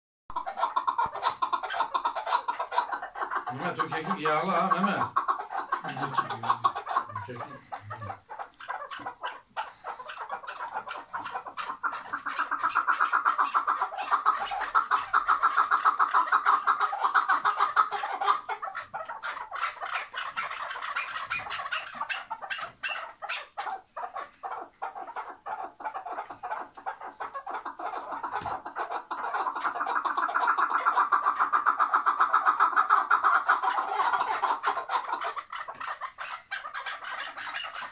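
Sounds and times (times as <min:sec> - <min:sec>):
partridge chattering calls: 0:00.3 - 0:37.9.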